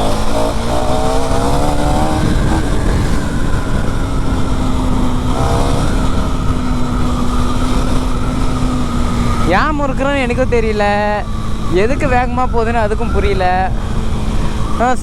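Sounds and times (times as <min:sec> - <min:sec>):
motorcycle engine accelerating: 0:00.0 - 0:15.0
wind and road noise: 0:00.0 - 0:15.0.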